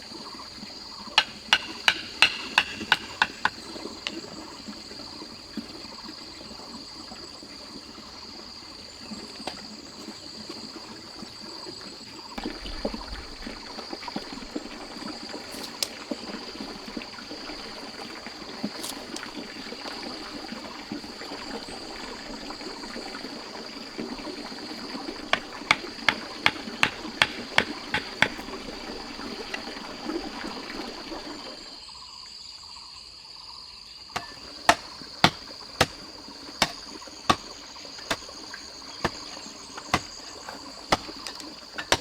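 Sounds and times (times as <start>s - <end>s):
water trickling: 2.8s - 31.8s, 34.2s - 42.0s.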